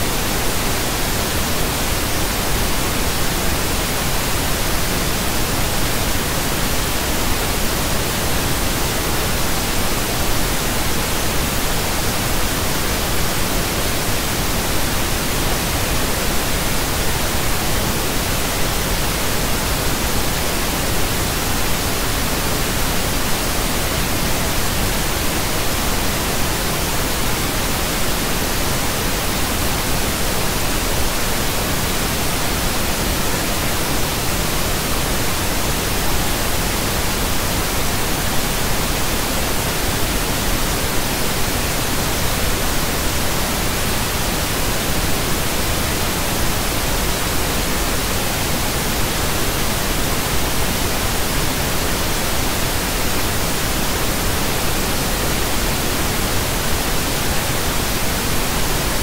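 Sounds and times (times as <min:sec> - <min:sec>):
steady pink noise hiss: 0:00.0 - 0:59.0.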